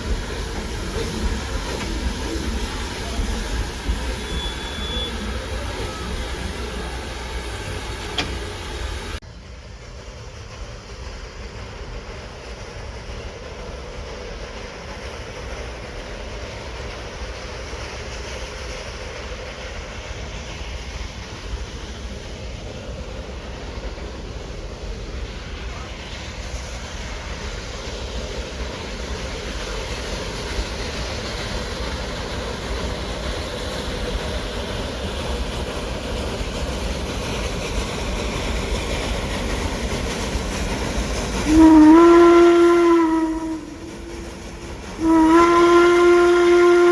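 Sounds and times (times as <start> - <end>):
steam train running: 0.0 - 46.9.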